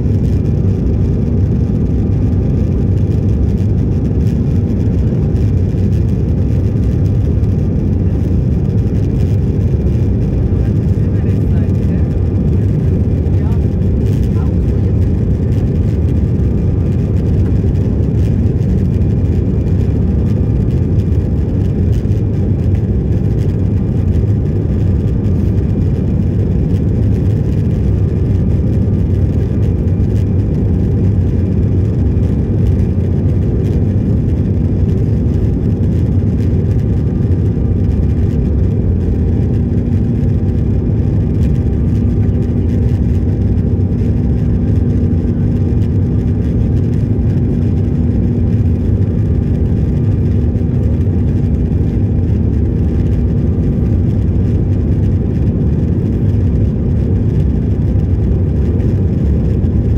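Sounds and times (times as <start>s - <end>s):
aircraft engine rumble: 0.0s - 59.9s.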